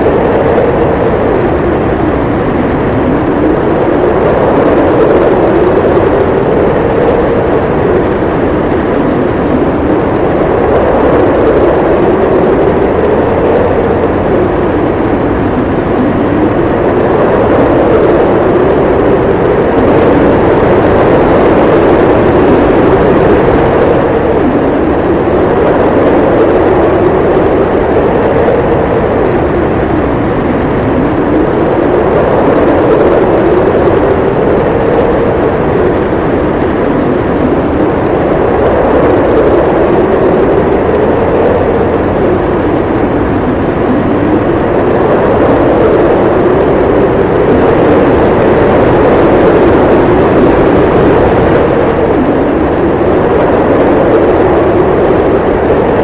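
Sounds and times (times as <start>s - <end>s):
howling snowstorm wind: 0.0s - 56.0s.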